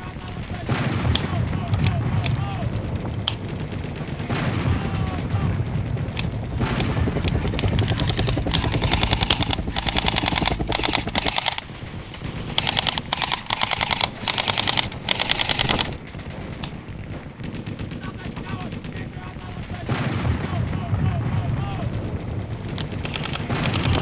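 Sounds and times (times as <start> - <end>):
automatic gunfire bursts: 0.0 - 20.8, 21.6 - 24.0
low rumble: 0.0 - 24.0.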